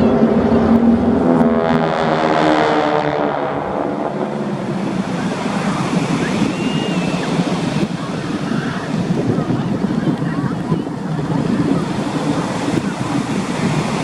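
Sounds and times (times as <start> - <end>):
aircraft engine passing overhead: 0.0 - 14.0
steady rushing noise: 0.0 - 14.0.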